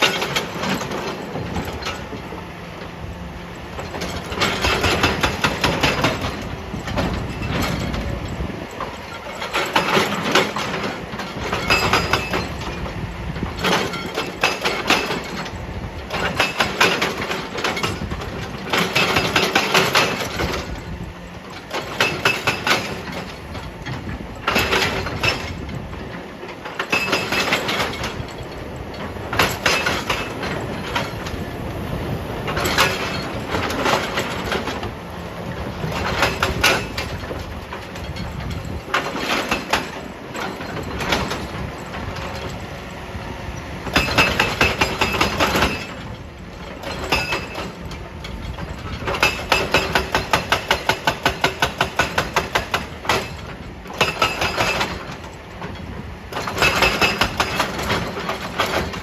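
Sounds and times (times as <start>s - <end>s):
hydraulic breaker hammering rock: 0.0s - 2.4s, 3.7s - 43.2s, 43.8s - 59.0s.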